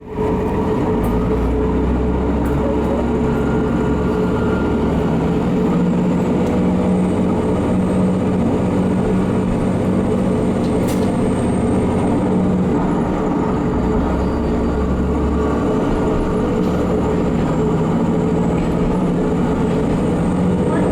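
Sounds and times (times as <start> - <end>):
railcar engine rumble: 0.0 - 20.9.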